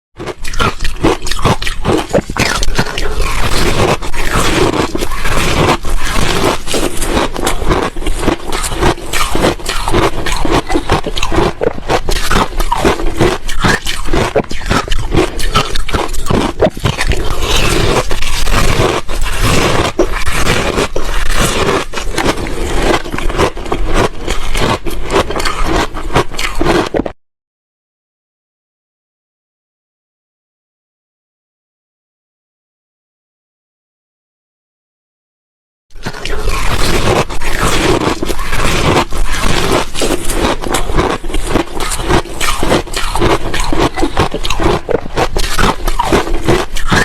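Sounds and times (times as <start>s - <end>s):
ice being chewed: 0.2s - 27.2s, 36.0s - 47.0s.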